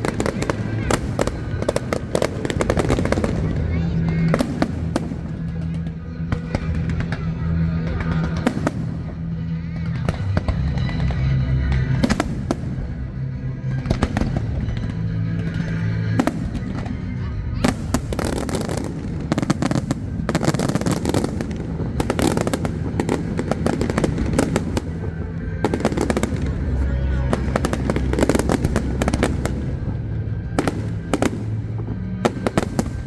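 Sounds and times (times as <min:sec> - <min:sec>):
fireworks bangs and crackling: 0:00.0 - 0:33.0
music over loudspeakers: 0:00.0 - 0:33.0.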